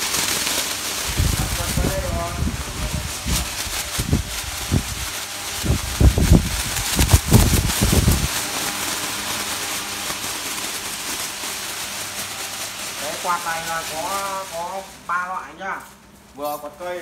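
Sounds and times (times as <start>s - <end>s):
fan airflow buffeting microphone: 0.0s - 17.0s.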